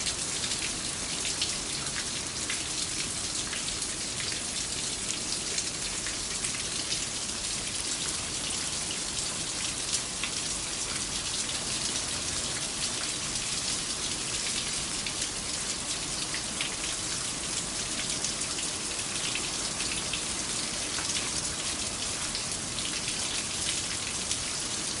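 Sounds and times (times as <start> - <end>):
light rain pattering: 0.0 - 25.0.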